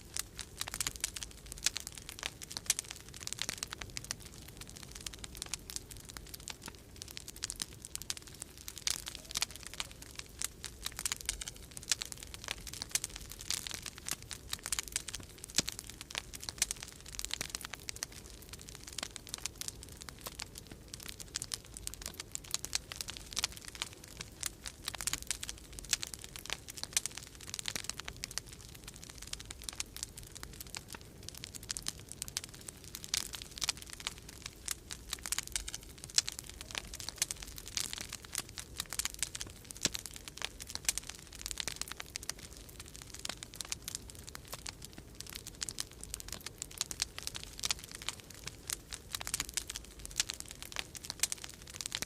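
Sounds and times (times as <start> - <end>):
wood fire crackling and popping: 0.0 - 52.0.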